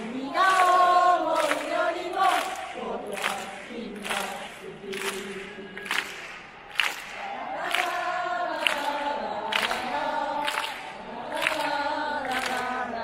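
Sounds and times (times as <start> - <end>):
crowd chanting in unison: 0.0 - 13.0.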